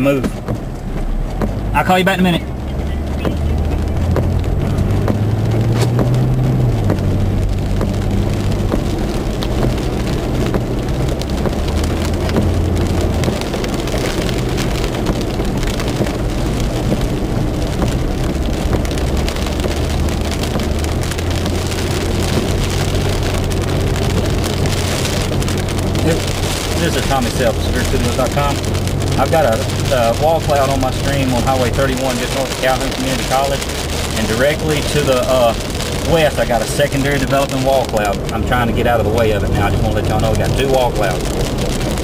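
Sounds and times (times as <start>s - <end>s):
car engine running: 0.0s - 42.0s
rain on vehicle roof: 0.0s - 42.0s.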